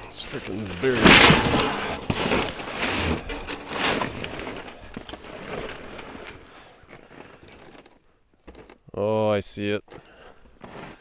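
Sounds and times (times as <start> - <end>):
shovel crunching and scraping snow: 0.1 - 8.0, 10.0 - 11.0.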